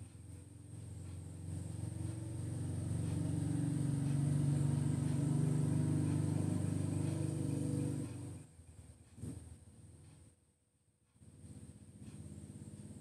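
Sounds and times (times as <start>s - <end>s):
low motor hum: 0.0s - 10.2s, 11.2s - 13.0s.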